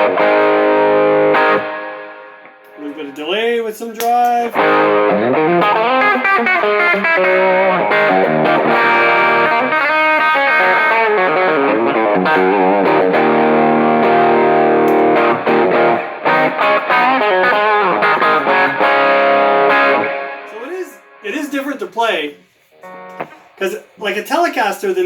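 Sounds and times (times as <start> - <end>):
electric guitar with overdrive: 0.0 - 2.8, 4.6 - 21.2, 22.7 - 23.6.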